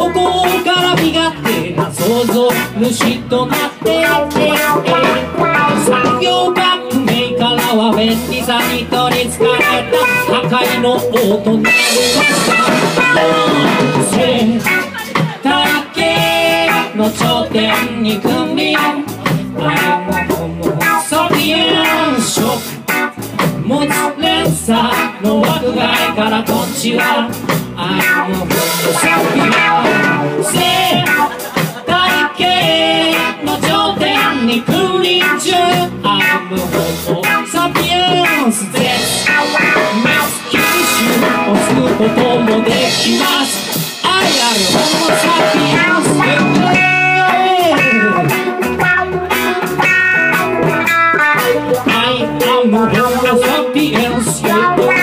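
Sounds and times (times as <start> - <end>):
man singing: 0.0 - 55.0
reggae band playing: 0.0 - 55.0.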